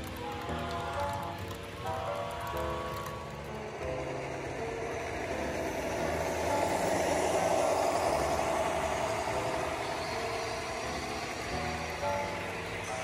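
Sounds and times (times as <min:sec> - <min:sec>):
diesel engine sound: 0:00.0 - 0:13.0
model train rumbling on rails: 0:00.0 - 0:13.0.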